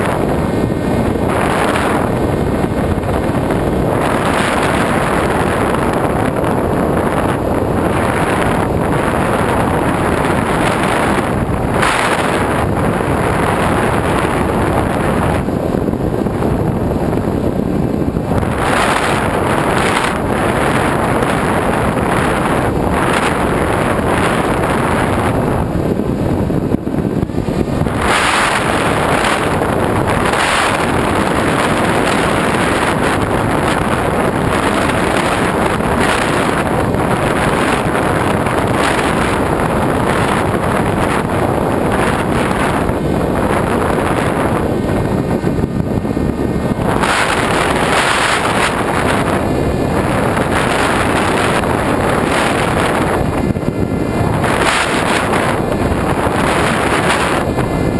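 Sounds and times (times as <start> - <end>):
rushing wind noise: 0.0 - 57.9.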